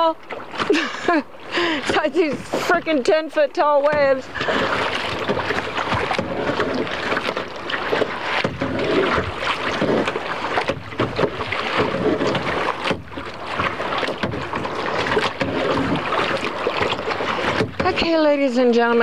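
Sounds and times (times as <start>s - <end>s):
paddle splashing: 0.0s - 19.0s
water sloshing against kayak: 0.0s - 19.0s.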